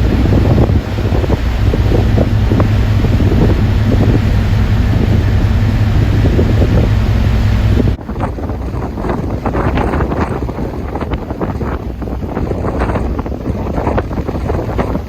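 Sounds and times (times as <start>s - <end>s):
low rumble: 0.0s - 15.0s
wind buffeting microphone: 0.0s - 15.0s.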